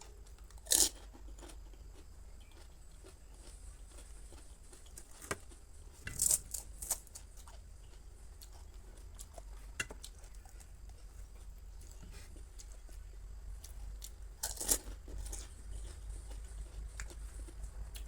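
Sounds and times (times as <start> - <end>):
crunching of fried shells: 0.0 - 18.0.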